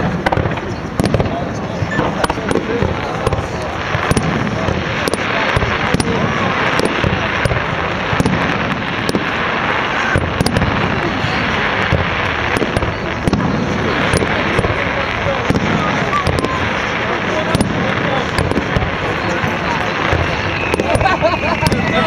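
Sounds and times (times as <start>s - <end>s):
continuous loud hiss: 0.0s - 22.0s
fireworks bangs and crackles: 0.0s - 22.0s.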